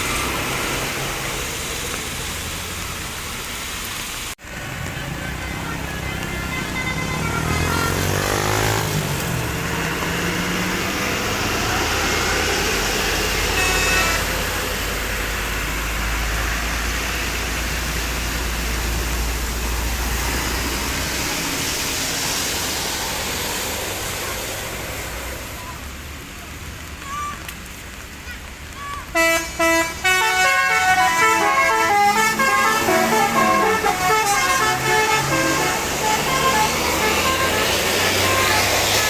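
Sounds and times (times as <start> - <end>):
bus engine rumble: 0.0 - 39.0.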